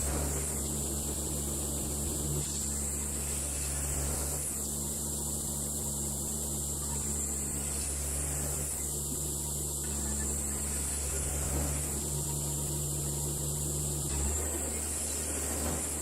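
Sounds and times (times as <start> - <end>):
sawmill engine hum: 0.0 - 16.0.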